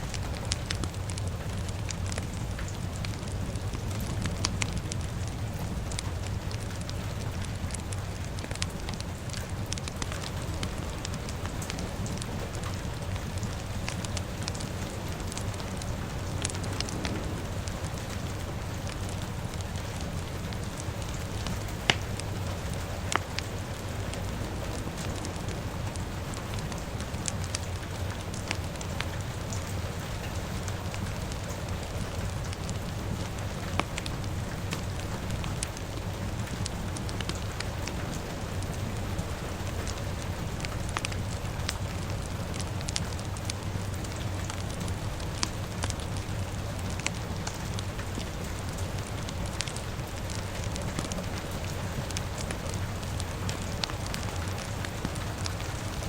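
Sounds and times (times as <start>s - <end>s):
fire crackling: 0.0s - 56.0s
rainfall hiss: 0.0s - 56.0s.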